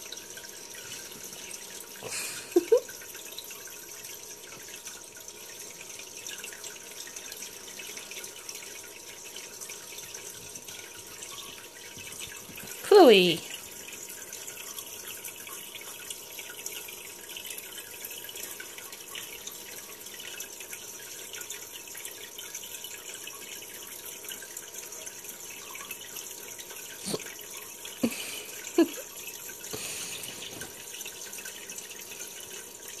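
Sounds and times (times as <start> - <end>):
running water through speakers: 0.0 - 33.0.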